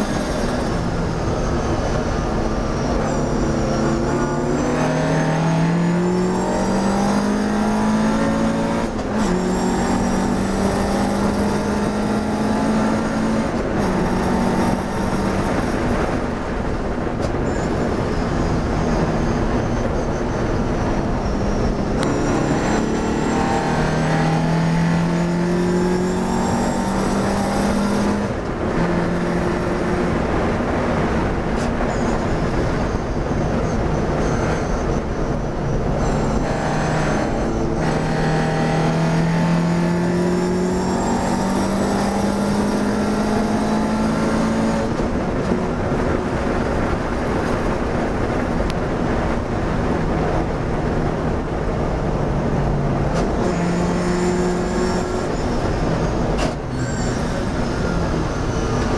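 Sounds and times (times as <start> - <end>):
racing car engine: 0.0 - 58.9.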